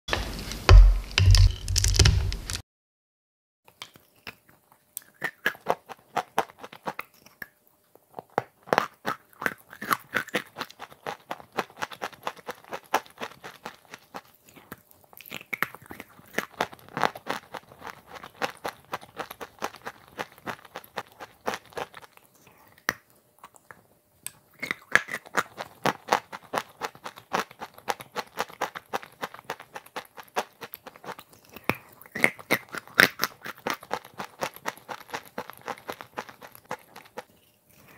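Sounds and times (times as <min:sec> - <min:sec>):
crunching and chewing: 0:03.7 - 0:37.9.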